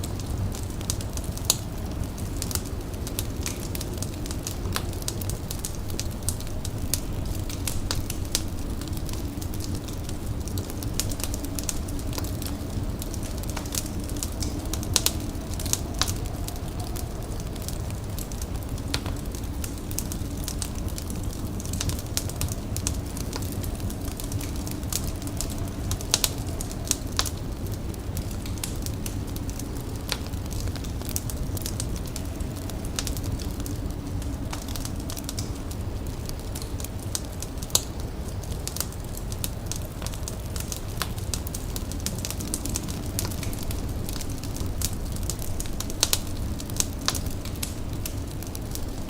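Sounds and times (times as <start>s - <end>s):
fire crackling and popping: 0.0s - 49.0s.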